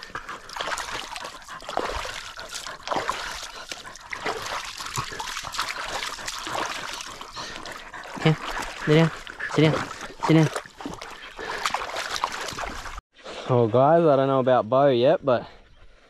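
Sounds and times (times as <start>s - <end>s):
dog sounds: 0.0s - 13.0s
water splashing and trickling: 0.0s - 13.0s.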